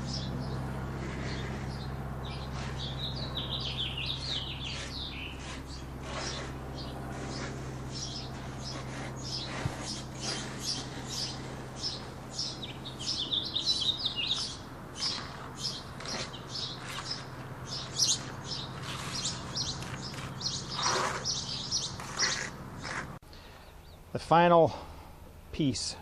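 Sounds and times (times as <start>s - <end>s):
small birds chirping: 0.0s - 24.2s
steady low hum: 0.0s - 26.0s.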